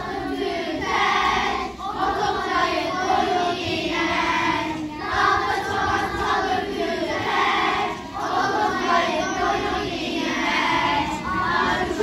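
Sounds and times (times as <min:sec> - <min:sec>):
children's choir singing: 0:00.0 - 0:12.0.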